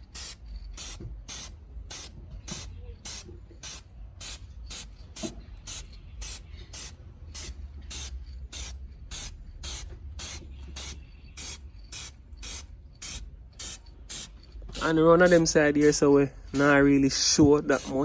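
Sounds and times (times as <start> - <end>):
aerosol can spraying in bursts: 0.0 - 18.0.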